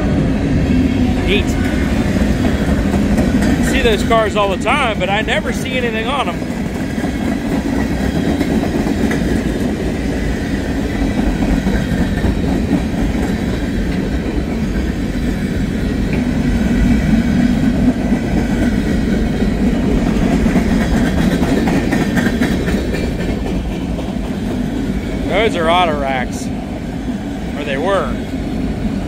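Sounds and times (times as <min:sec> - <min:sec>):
clickety-clack of rail cars: 0:00.0 - 0:29.0
freight train wheels rumbling: 0:00.0 - 0:29.0.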